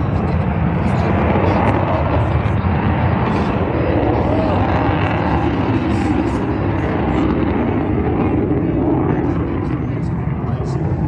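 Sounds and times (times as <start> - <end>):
jet aircraft roar: 0.0 - 11.0.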